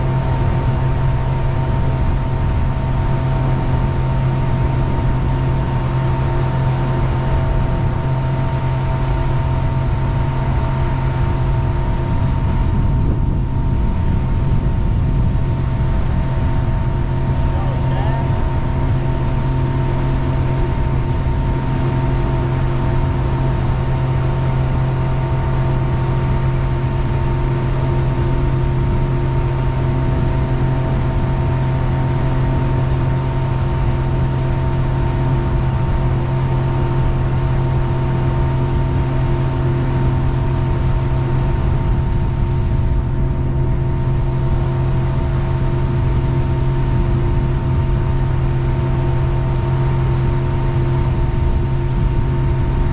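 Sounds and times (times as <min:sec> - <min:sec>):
jet boat engine running: 0:00.0 - 0:52.9.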